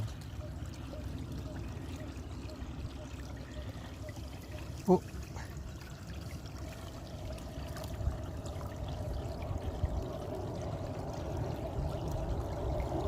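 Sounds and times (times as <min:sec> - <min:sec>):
water running and trickling: 0:00.0 - 0:13.0.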